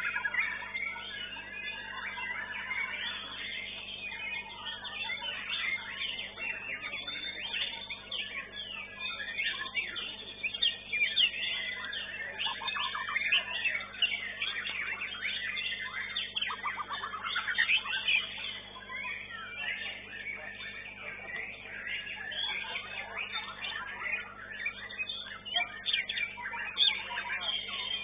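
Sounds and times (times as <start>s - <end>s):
bird singing whistled phrases: 0.0s - 28.0s.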